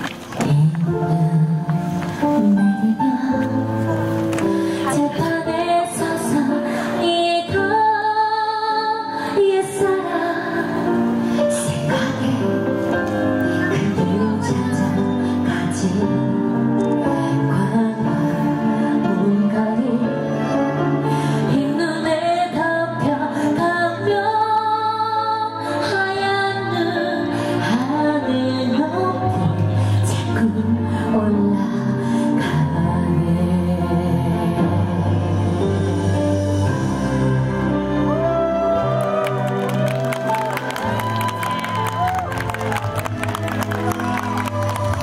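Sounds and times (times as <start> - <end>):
woman singing into microphone: 0.0 - 36.4
amplified backing music: 0.0 - 45.0.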